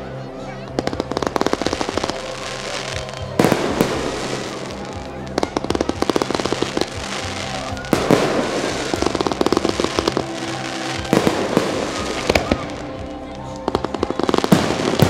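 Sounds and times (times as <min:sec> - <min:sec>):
music: 0:00.0 - 0:15.0
fireworks bangs and crackles: 0:00.7 - 0:15.0.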